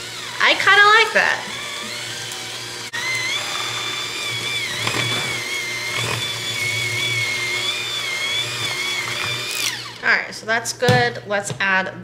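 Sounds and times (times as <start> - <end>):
electric hand mixer whine: 0.0 - 10.1.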